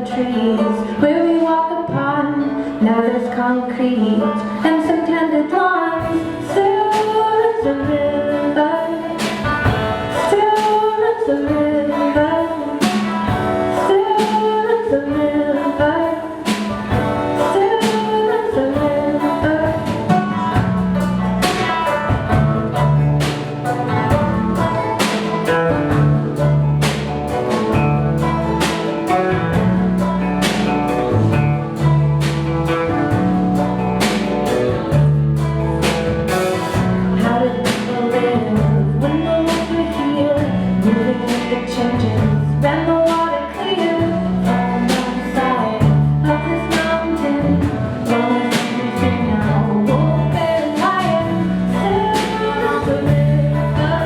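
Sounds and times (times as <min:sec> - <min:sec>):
bass: 0:00.0 - 0:54.0
clawhammer banjo: 0:00.0 - 0:54.0
guitar: 0:00.0 - 0:54.0
person singing: 0:00.0 - 0:54.0
drum kit: 0:04.9 - 0:54.0.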